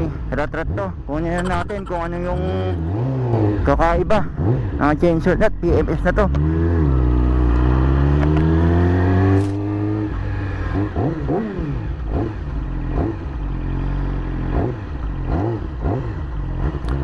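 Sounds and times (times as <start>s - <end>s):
motorcycle engine revving: 1.9s - 17.0s.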